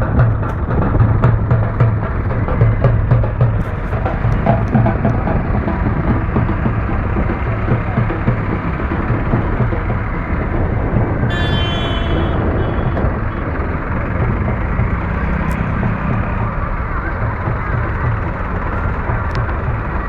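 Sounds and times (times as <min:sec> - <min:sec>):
tractor diesel engines rumbling: 0:00.0 - 0:20.0.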